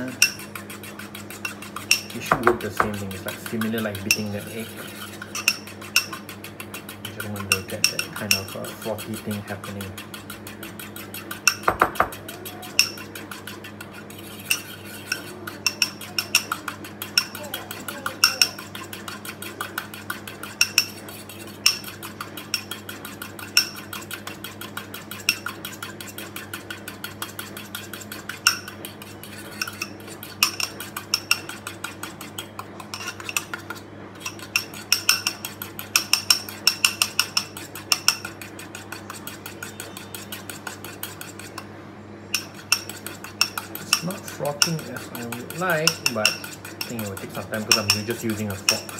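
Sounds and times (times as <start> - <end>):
metal utensil beating ceramic bowl: 0.0 - 41.7, 42.3 - 48.9.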